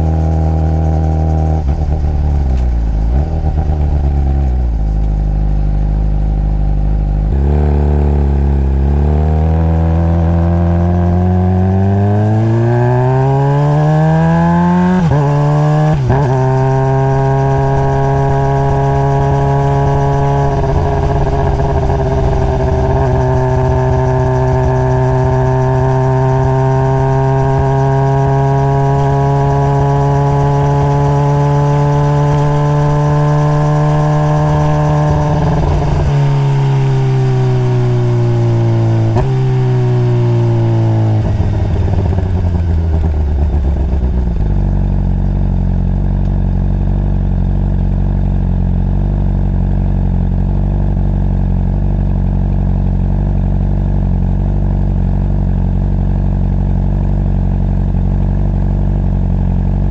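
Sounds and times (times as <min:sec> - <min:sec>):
motorcycle engine idling: 0:00.0 - 0:07.3, 0:17.2 - 0:59.9
motorcycle engine revving: 0:00.0 - 0:59.9.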